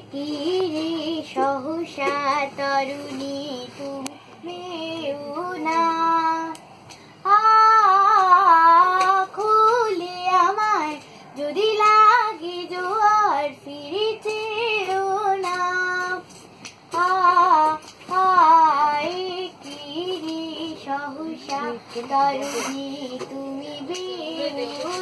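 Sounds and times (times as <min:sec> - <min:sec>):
woman singing unaccompanied: 0:00.0 - 0:25.0.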